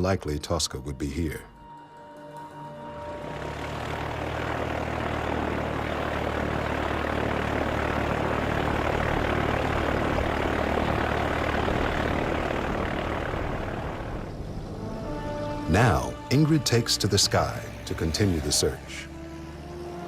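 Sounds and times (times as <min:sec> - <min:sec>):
propeller aircraft engine droning: 0:00.0 - 0:20.0.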